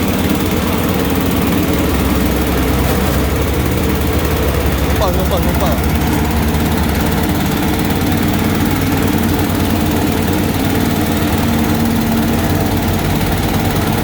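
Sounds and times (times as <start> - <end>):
grinding mill engine drone: 0.0 - 14.0.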